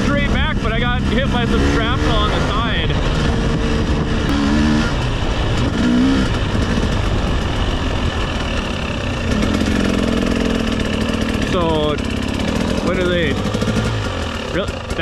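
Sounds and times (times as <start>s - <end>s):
dense low drone: 0.0s - 15.0s
dirt bike engine running: 0.0s - 15.0s.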